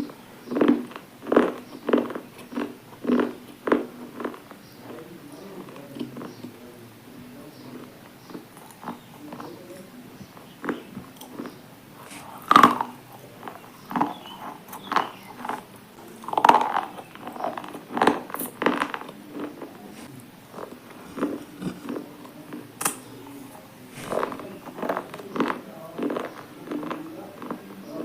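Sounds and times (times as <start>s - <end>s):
person chewing with crunches: 0.0s - 6.6s, 7.6s - 28.0s.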